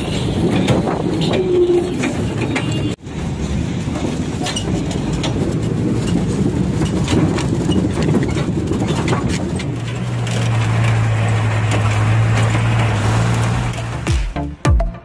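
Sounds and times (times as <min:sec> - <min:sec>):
metal truck bed rattling: 0:00.0 - 0:14.0
truck driving on road: 0:00.0 - 0:14.7.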